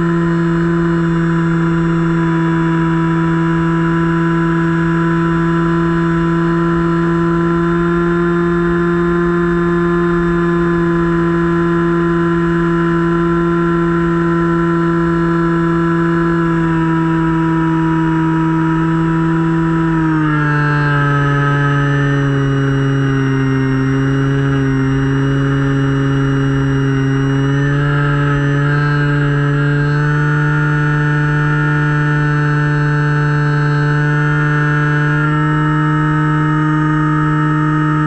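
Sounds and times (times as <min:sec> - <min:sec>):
electric motor and propeller whine: 0:00.0 - 0:38.0.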